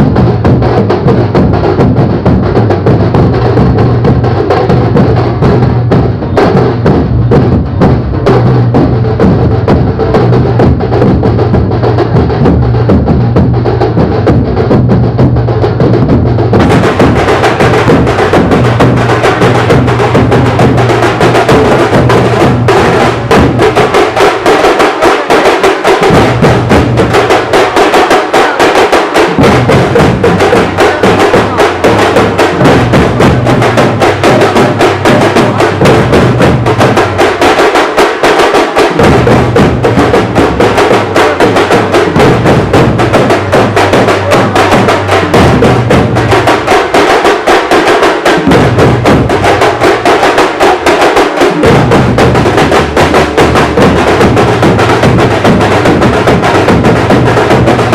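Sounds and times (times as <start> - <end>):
frame drums beaten with sticks: 0.0 - 57.9.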